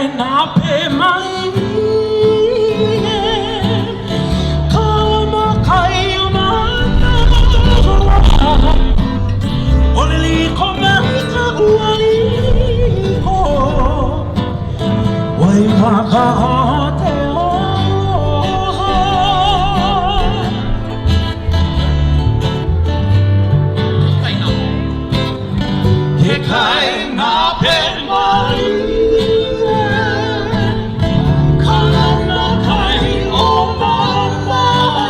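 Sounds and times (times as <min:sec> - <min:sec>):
voices singing with vibrato: 0:00.0 - 0:22.5, 0:26.0 - 0:35.0
guitar accompaniment: 0:00.0 - 0:35.0
bass line: 0:03.0 - 0:26.6, 0:27.6 - 0:35.0.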